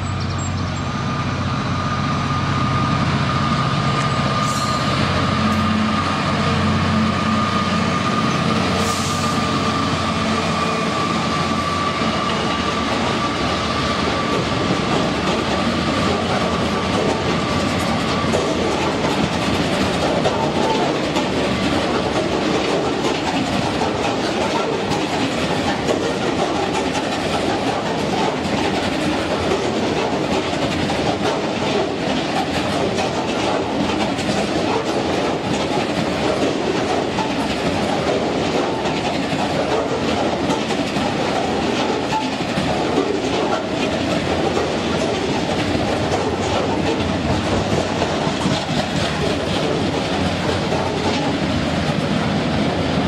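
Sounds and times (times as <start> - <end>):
freight train wheels clattering: 3.0 - 53.0.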